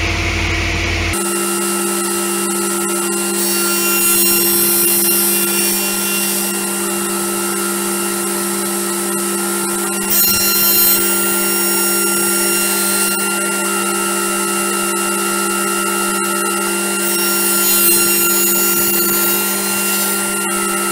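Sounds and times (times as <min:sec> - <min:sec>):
milling machine motor humming: 0:00.0 - 0:20.9
saw blade cutting: 0:01.1 - 0:13.6, 0:16.6 - 0:20.9.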